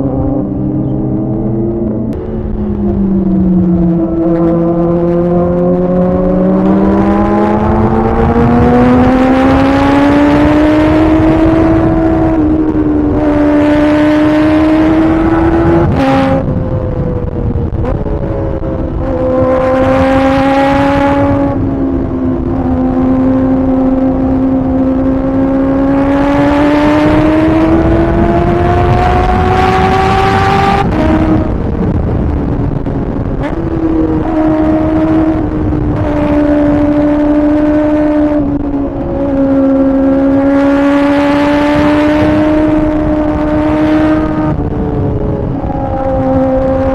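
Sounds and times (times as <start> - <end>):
motorcycle engine revving high: 0.0 - 46.9.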